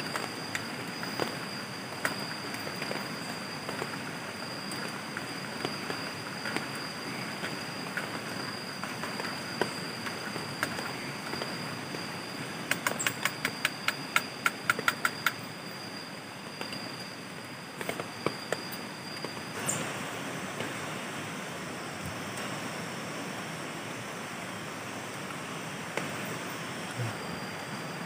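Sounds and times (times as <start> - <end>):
high insect drone: 0.0 - 28.0
steady hiss: 0.0 - 28.0.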